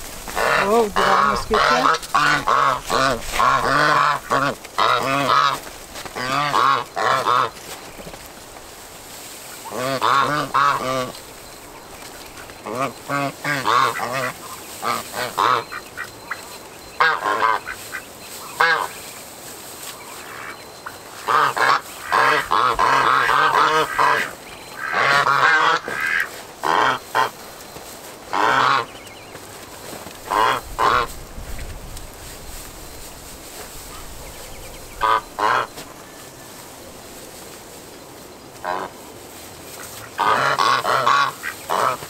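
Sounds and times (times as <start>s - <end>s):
geese honking: 0.0s - 8.0s, 9.0s - 42.0s.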